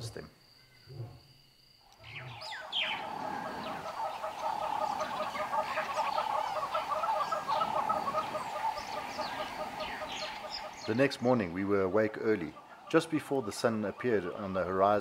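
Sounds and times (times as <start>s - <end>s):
birds chirping: 1.8s - 15.0s.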